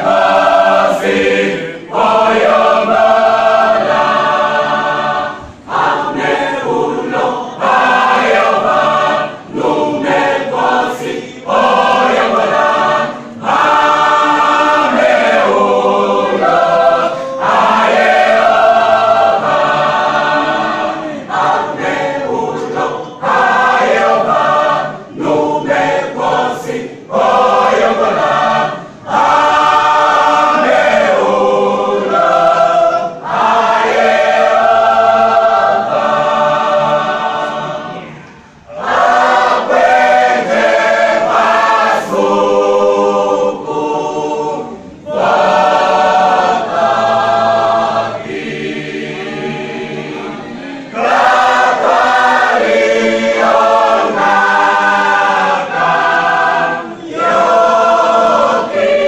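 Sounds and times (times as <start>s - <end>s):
church choir singing: 0.0s - 59.0s.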